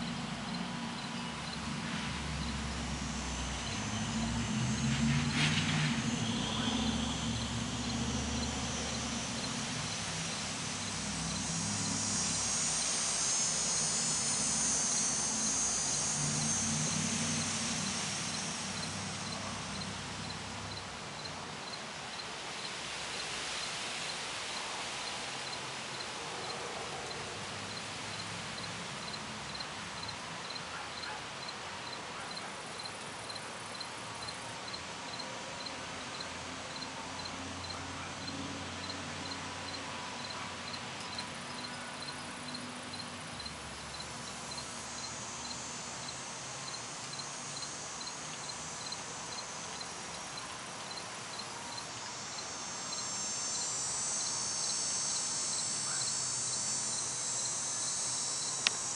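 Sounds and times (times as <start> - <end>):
insect buzzing hiss: 0.0 - 58.9
insect chirping: 0.0 - 58.9.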